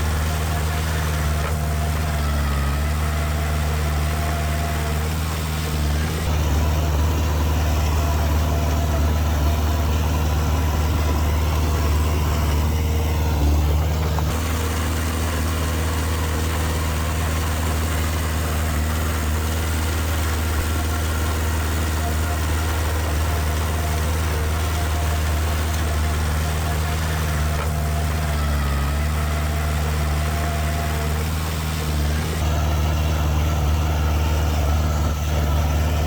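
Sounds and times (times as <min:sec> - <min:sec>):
heavy machinery diesel engine: 0:00.0 - 0:36.0.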